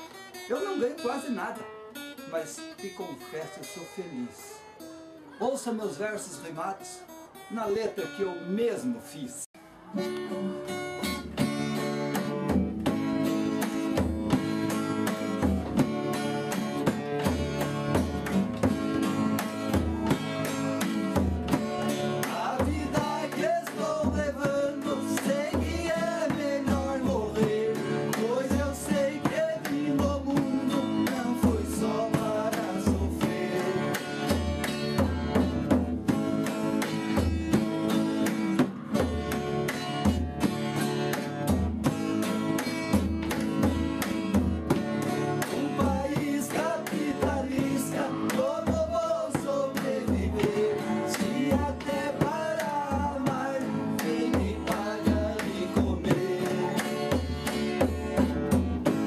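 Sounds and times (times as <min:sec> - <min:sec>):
acoustic guitars strumming: 0:00.0 - 0:59.0
hand drum beat: 0:11.0 - 0:59.0.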